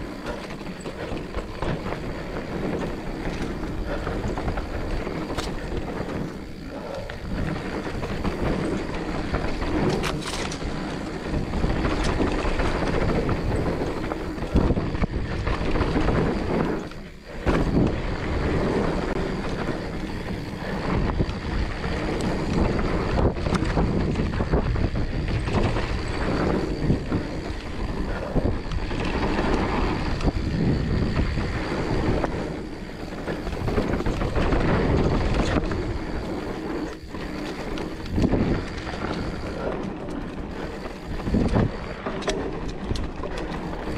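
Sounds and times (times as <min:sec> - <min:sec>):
bike rattling over bumps: 0:00.0 - 0:43.9
bike tyres rolling over dirt: 0:00.0 - 0:43.9
wind buffeting microphone: 0:00.0 - 0:43.9.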